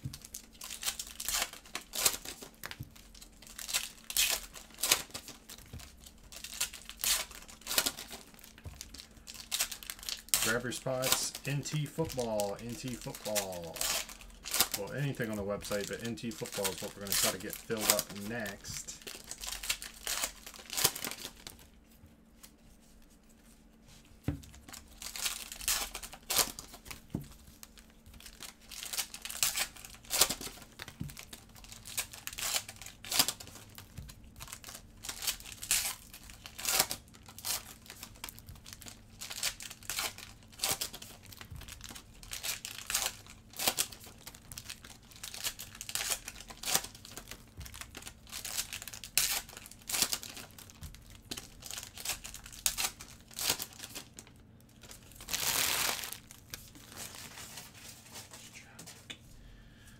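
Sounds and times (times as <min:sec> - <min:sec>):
wrappers crinkling: 0:00.0 - 0:58.7
wrappers tearing open: 0:00.2 - 0:21.7, 0:24.4 - 0:57.8.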